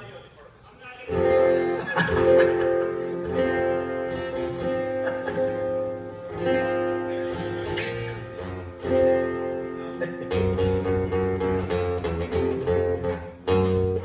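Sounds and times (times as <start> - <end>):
guitar strumming chords: 1.1 - 14.0.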